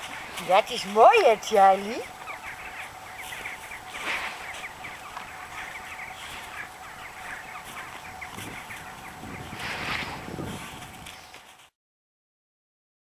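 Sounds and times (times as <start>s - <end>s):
faint steady hum: 0.0s - 11.7s.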